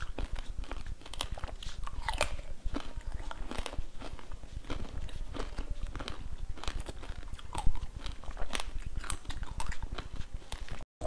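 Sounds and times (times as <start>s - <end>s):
chewing and crunching chocolate: 0.0s - 10.8s.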